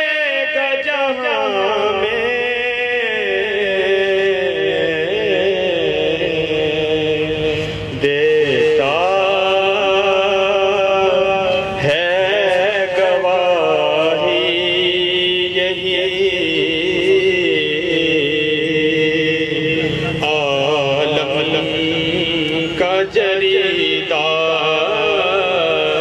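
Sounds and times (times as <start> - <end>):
man chanting through microphone: 0.0 - 26.0.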